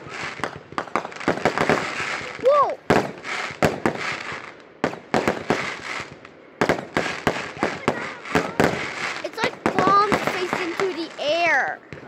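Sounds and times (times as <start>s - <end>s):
fireworks bangs and crackling pops: 0.0s - 12.0s.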